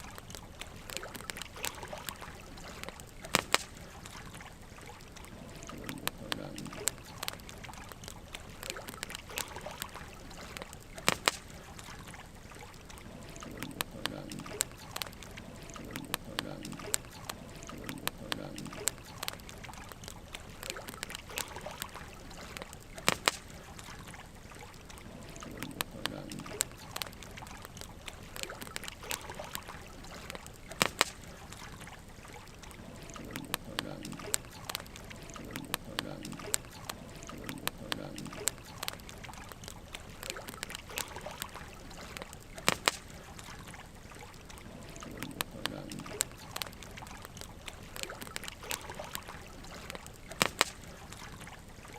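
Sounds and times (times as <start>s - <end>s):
burning logs crackling: 0.0s - 51.9s.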